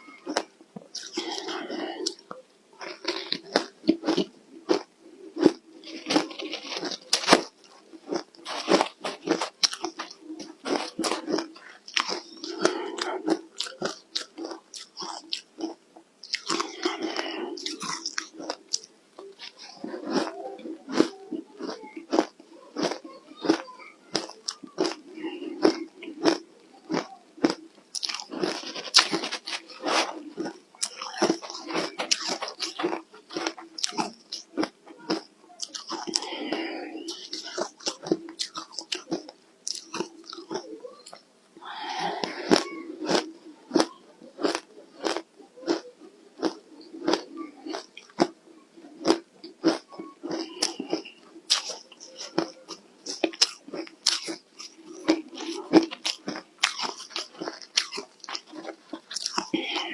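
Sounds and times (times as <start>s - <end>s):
ice being chewed: 0.2s - 59.9s.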